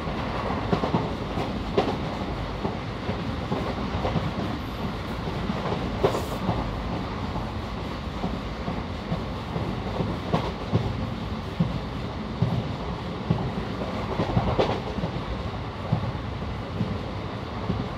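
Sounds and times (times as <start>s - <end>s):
train rumbling: 0.0s - 17.9s.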